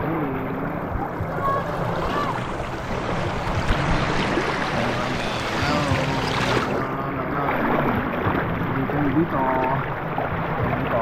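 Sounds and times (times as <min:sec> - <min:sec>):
faint voices: 0:00.0 - 0:09.9
water rushing over rocks: 0:00.0 - 0:11.0.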